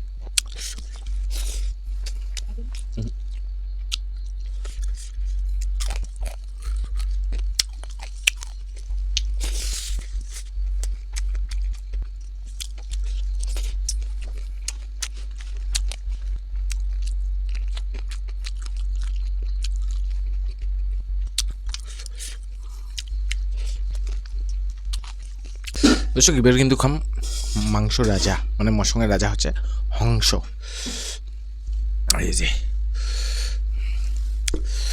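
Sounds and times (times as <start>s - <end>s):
chewing and crunching food: 0.0s - 34.9s
steady low hum: 0.0s - 34.9s.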